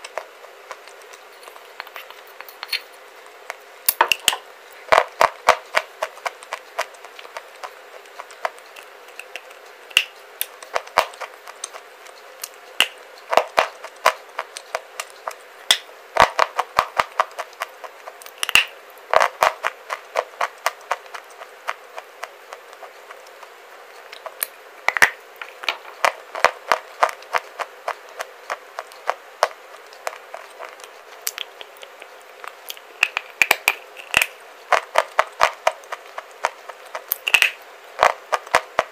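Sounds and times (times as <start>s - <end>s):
clay bar crunching when chewed: 0.0s - 38.9s.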